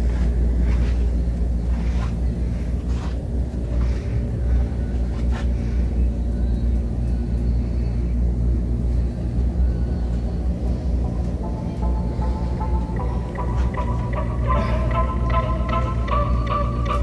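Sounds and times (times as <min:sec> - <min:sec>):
low machinery rumble and hum: 0:00.0 - 0:17.0.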